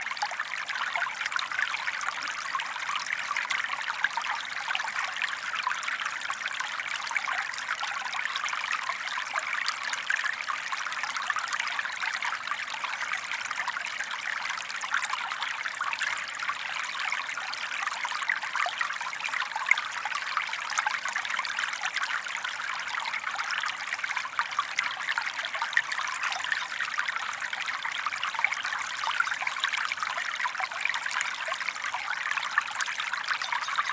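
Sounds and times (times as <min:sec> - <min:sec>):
stream trickling over stones: 0:00.0 - 0:33.9.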